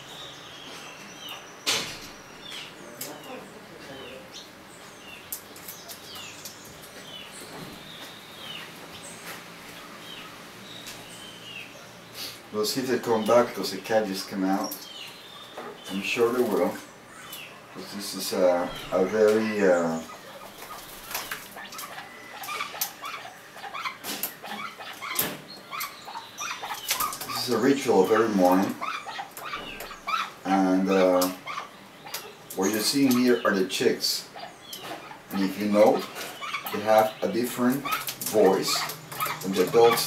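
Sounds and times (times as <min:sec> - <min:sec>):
birds peeping: 0:00.0 - 0:40.0.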